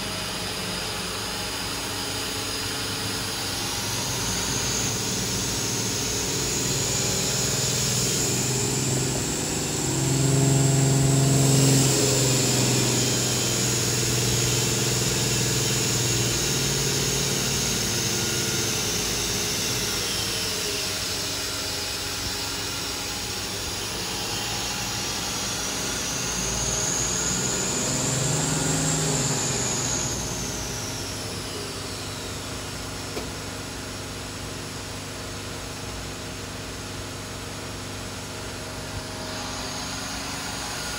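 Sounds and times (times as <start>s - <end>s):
high-pitched spindle whine: 0.0s - 34.3s, 36.0s - 40.9s
machine low hum: 0.0s - 40.9s.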